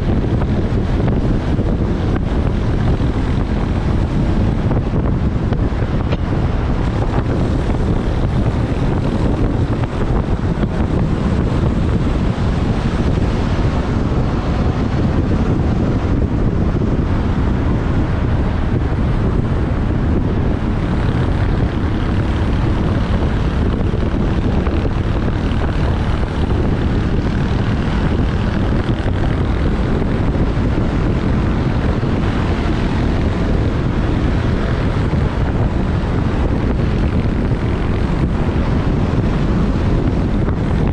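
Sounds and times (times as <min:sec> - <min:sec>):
motorbike engine running: 0:00.0 - 0:40.9
wind noise on microphone: 0:00.0 - 0:40.9.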